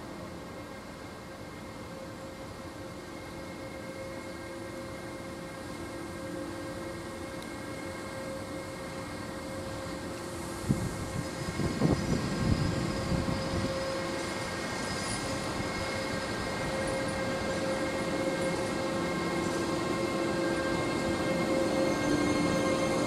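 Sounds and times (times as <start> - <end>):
freight train rolling: 0.0 - 23.0
squeal of wagon brakes and wheels: 0.5 - 23.0.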